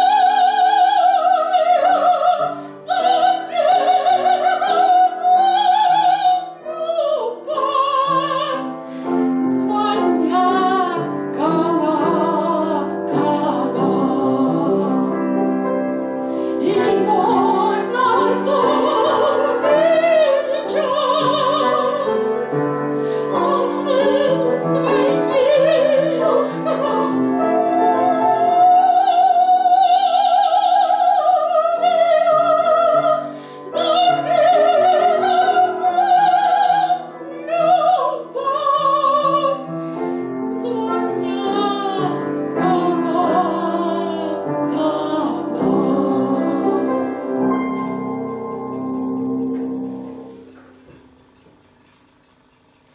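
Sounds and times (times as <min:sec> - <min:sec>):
woman singing operatically: 0:00.0 - 0:15.0, 0:16.6 - 0:22.5, 0:23.2 - 0:39.7, 0:40.6 - 0:47.3
piano accompaniment: 0:00.0 - 0:52.9.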